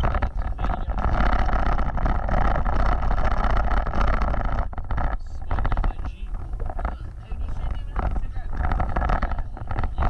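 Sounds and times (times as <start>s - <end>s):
off-road vehicle rumbling: 0.0s - 10.0s.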